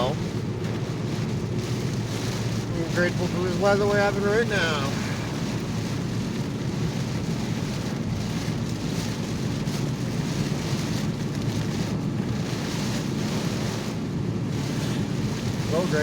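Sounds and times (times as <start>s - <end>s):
rain hitting car body and glass: 0.0s - 16.0s
tyres on wet road: 0.0s - 16.0s.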